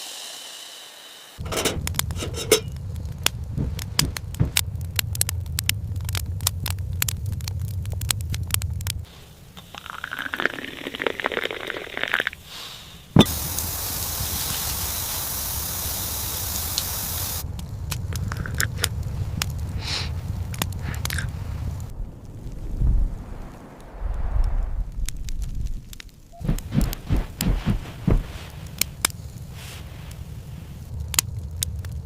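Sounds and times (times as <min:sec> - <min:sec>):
steady hiss: 0:00.0 - 0:04.9, 0:09.0 - 0:31.1
wood fire crackling: 0:01.4 - 0:32.0.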